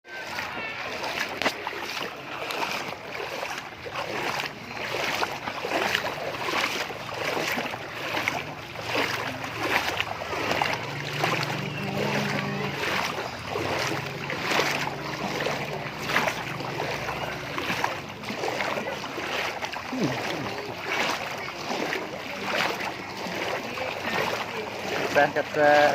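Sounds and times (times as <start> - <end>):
floodwater splashing: 0.0 - 25.9
people's voices: 0.1 - 25.9.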